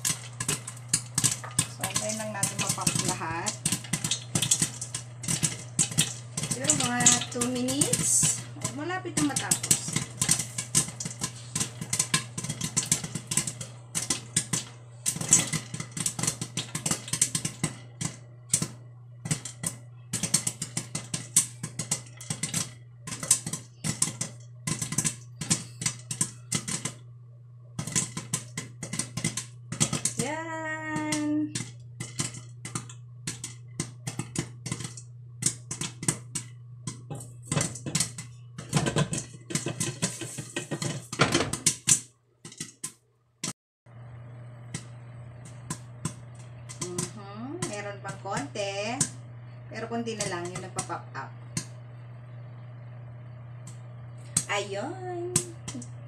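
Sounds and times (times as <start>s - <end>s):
steady low hum: 0.0s - 42.0s, 43.9s - 56.0s
popcorn popping in a pot: 0.0s - 56.0s.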